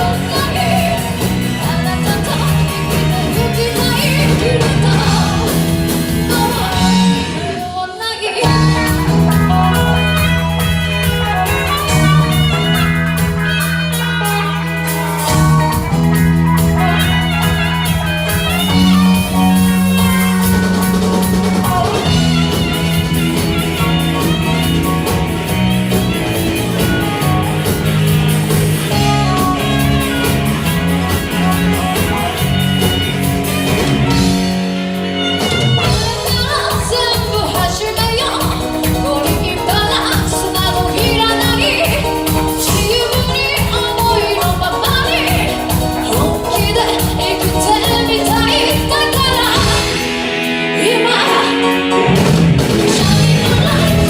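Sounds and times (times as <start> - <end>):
lead guitar with bending notes: 0.0 - 54.0
rock band playing: 0.0 - 54.0.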